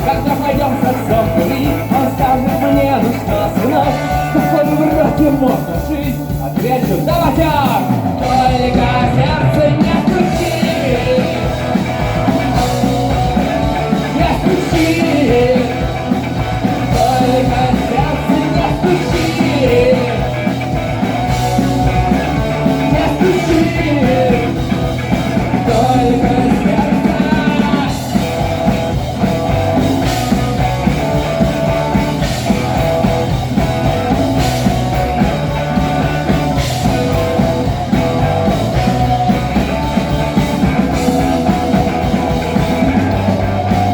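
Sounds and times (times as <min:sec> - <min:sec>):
melodic lead guitar line: 0:00.0 - 0:43.9
rock band playing: 0:00.0 - 0:43.9.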